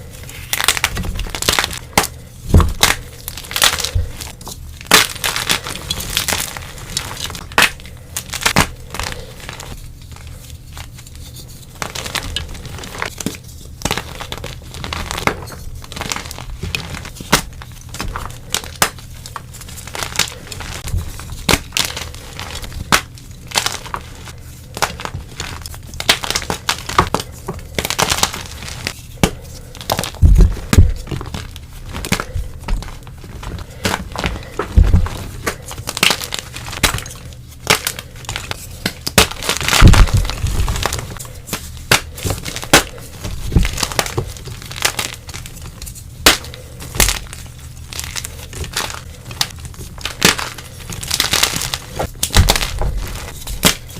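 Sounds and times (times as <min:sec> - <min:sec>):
chalk crunching and crackling: 0:00.0 - 0:53.9.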